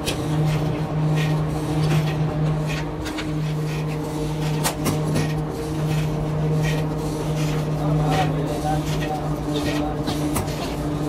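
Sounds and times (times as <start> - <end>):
clicks and scrapes of hand work: 0.0 - 10.8
motor humming: 0.0 - 11.0.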